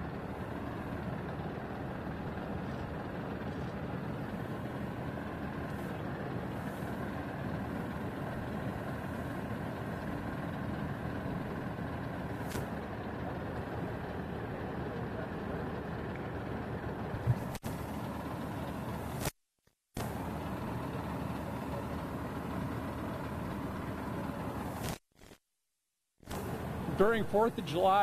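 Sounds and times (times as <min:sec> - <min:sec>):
engine running steadily: 0:00.0 - 0:19.4, 0:20.0 - 0:25.0, 0:26.2 - 0:28.0.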